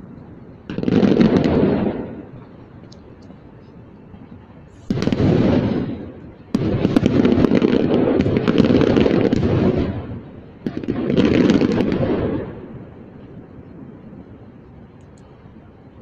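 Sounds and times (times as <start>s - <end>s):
distant fireworks bangs and crackling: 0.0s - 16.0s.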